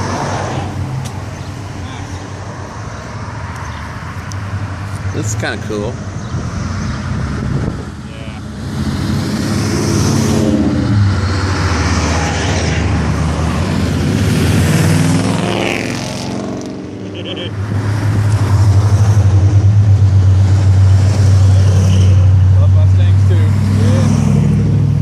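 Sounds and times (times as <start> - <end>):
car engines passing: 0.0 - 25.0.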